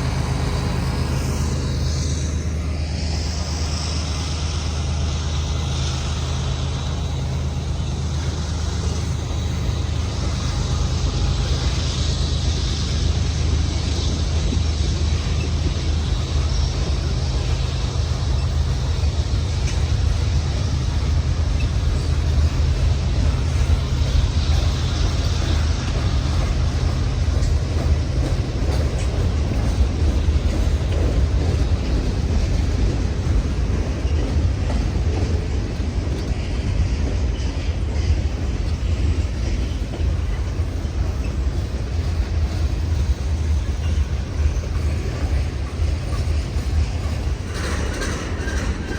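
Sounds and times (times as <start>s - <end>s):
freight train cars rolling: 0.0s - 48.9s.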